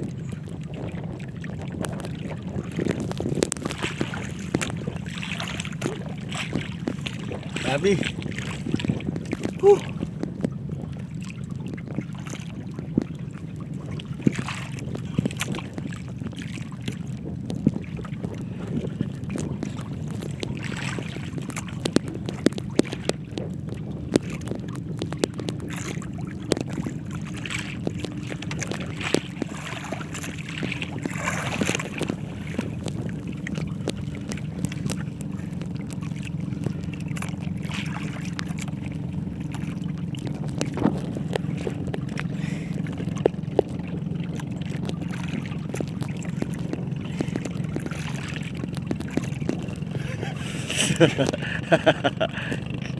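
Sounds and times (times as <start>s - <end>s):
boat motor hum: 0.0s - 52.9s
knocks and clatters from boat: 0.0s - 52.9s.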